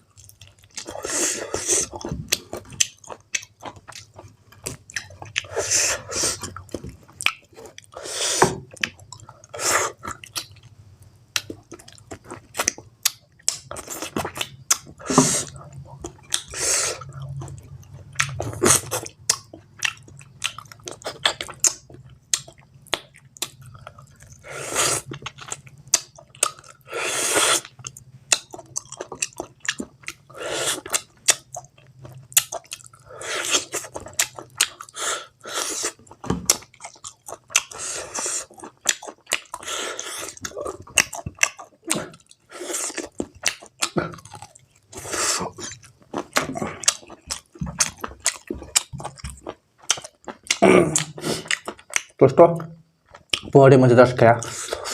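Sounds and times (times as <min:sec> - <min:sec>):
wet chewing and smacking: 0:00.0 - 0:08.0, 0:08.6 - 0:53.6.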